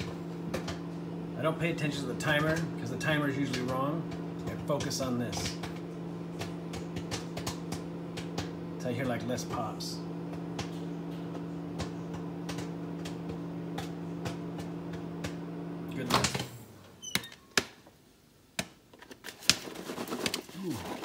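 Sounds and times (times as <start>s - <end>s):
popcorn popping: 0.0s - 16.4s, 18.5s - 21.0s
microwave oven humming: 0.0s - 19.7s.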